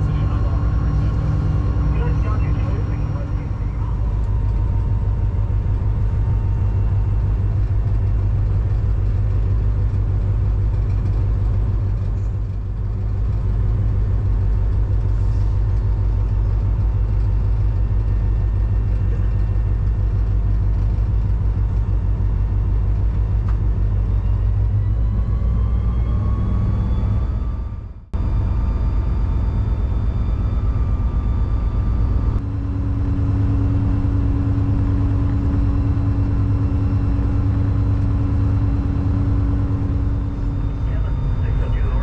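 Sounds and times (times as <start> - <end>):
locomotive engine rumbling: 0.0 - 42.0.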